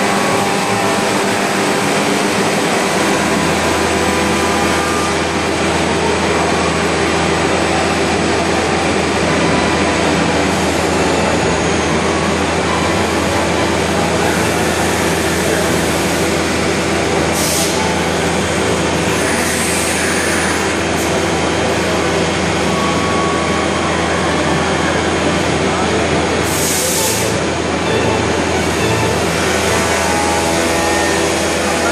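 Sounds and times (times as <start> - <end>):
cnc router running: 0.0 - 31.9.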